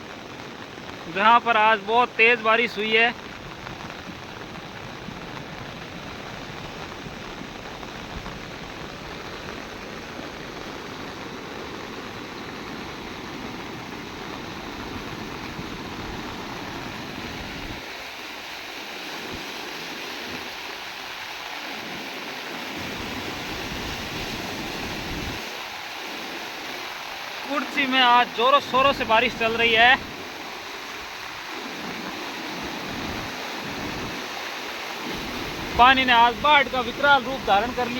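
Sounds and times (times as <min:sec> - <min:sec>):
floodwater rushing: 0:00.0 - 0:37.9
heavy rain: 0:00.0 - 0:37.9.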